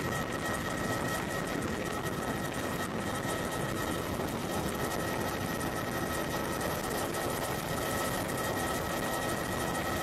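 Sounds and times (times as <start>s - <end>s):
helicopter engine and rotor noise: 0.0s - 10.0s.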